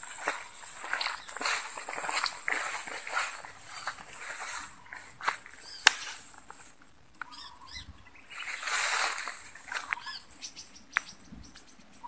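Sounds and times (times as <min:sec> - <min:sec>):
tall grass rustling: 0:00.0 - 0:10.9.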